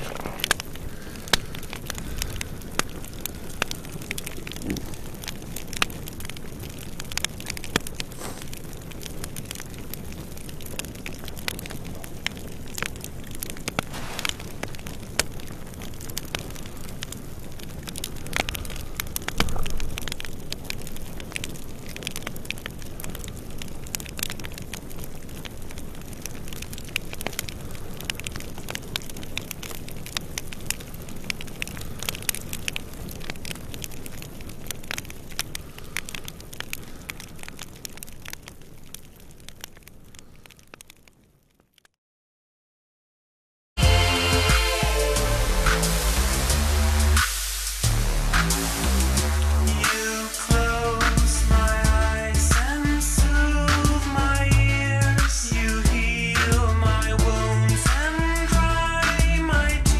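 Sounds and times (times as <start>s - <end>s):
fire crackling: 0.0s - 42.0s, 43.8s - 59.9s.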